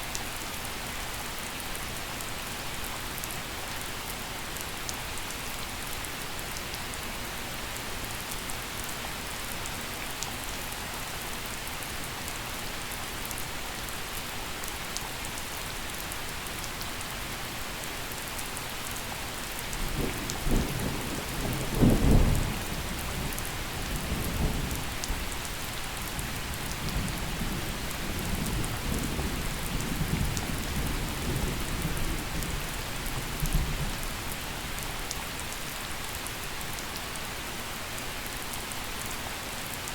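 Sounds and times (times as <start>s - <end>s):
gentle rain with drips: 0.0s - 39.9s.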